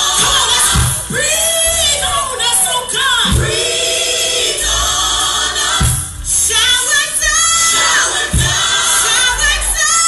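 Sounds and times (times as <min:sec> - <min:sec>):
gospel choir singing over a beat: 0:00.0 - 0:10.0.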